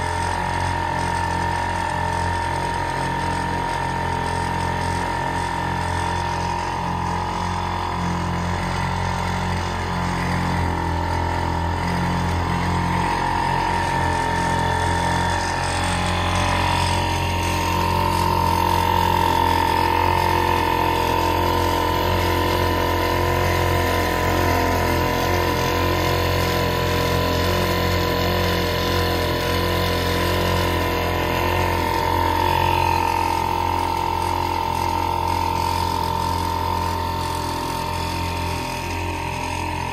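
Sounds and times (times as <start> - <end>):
motor whine: 0.0 - 39.9
outboard motor droning: 0.0 - 39.9.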